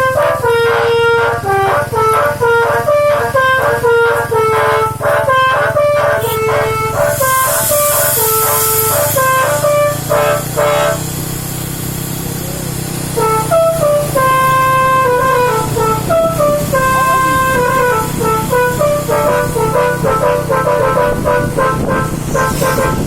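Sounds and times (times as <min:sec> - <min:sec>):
musical air horn tune: 0:00.0 - 0:11.4, 0:13.1 - 0:23.0.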